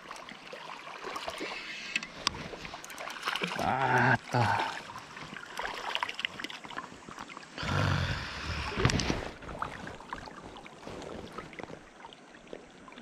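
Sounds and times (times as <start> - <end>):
river water splashing: 0.0 - 13.0.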